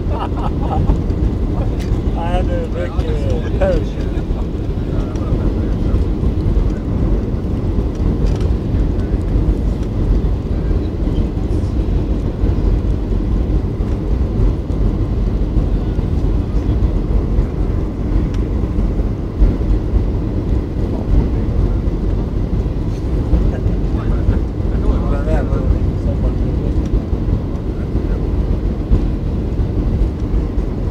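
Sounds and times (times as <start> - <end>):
airplane cabin engine rumble: 0.0 - 30.9.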